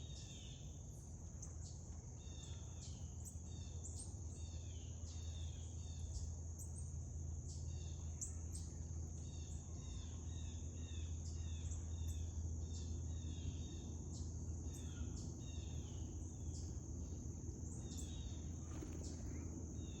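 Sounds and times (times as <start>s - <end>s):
crickets droning: 0.0s - 20.0s
low steady rumble: 0.0s - 20.0s.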